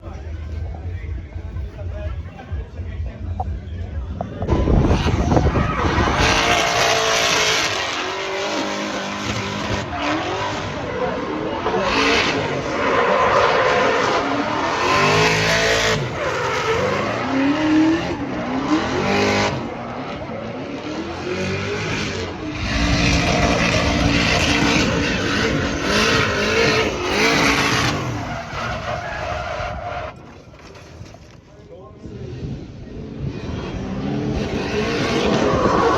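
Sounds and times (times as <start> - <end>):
engine revving: 3.4 - 29.7, 33.1 - 35.9.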